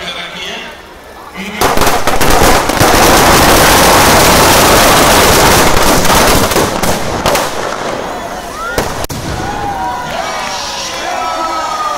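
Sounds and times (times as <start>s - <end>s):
firecrackers crackling: 0.9s - 11.1s.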